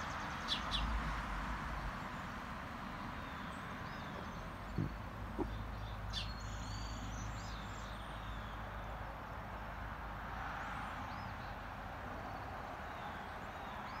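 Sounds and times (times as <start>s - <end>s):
songbirds calling: 0.0s - 9.9s, 10.6s - 14.0s.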